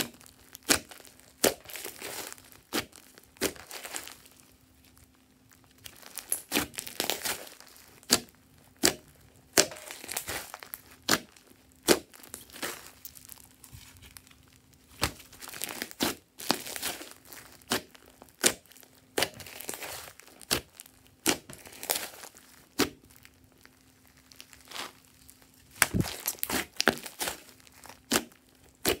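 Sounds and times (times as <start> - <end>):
slime popping and crackling: 0.0 - 29.0
slime squishing: 0.0 - 29.0.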